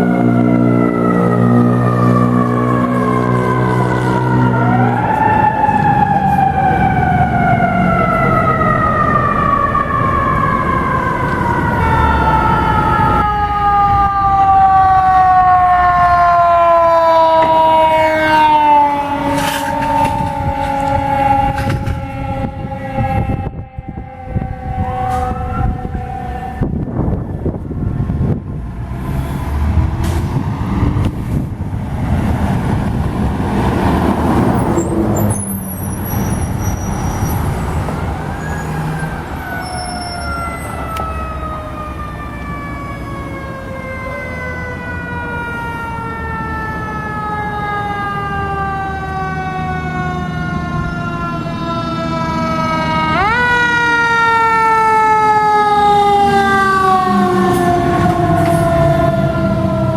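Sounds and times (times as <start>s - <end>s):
siren wailing: 0.0s - 28.1s, 34.0s - 59.9s
fire truck engine and road noise: 0.0s - 59.9s.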